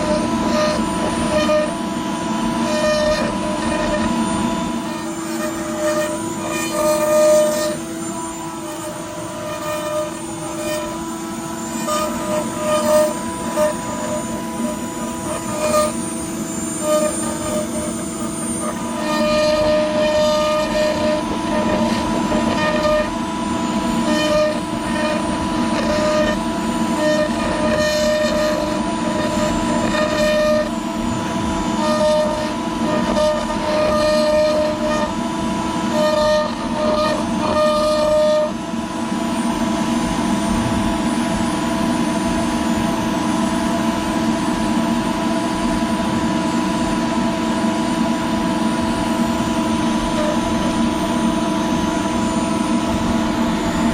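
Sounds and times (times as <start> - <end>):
cnc router spindle whine: 0.0 - 53.9
dust collector running: 0.0 - 53.9.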